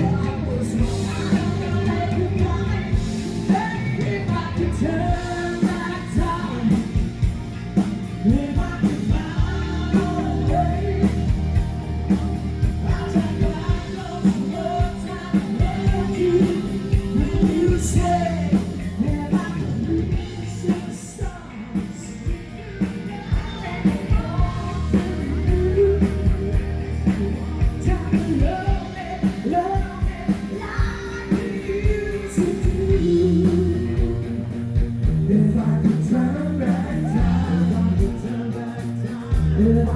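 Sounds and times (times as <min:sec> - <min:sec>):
person singing: 0:00.0 - 0:07.3, 0:08.2 - 0:11.7, 0:12.7 - 0:39.9
rock band playing live: 0:00.0 - 0:39.9.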